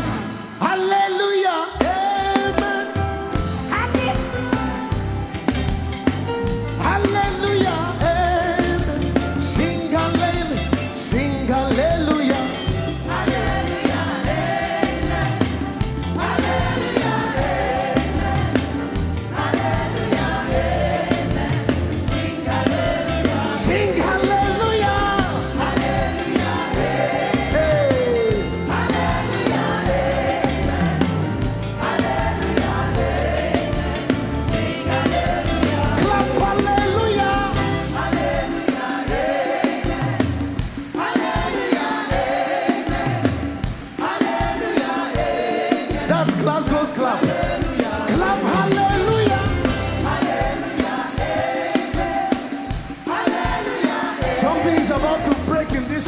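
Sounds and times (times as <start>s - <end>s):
gospel band playing: 0.0s - 56.0s
voices singing: 6.8s - 56.0s.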